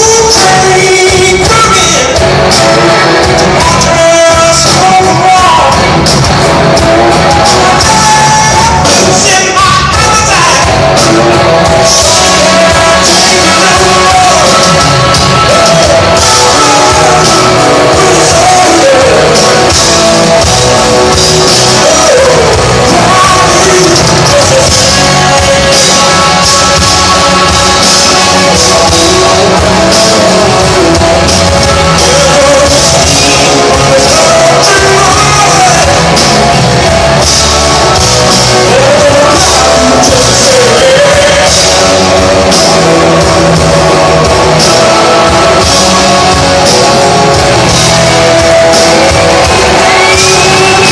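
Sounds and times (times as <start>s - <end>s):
bending lead guitar line: 0.0s - 50.9s
blues-rock band playing: 0.0s - 50.9s.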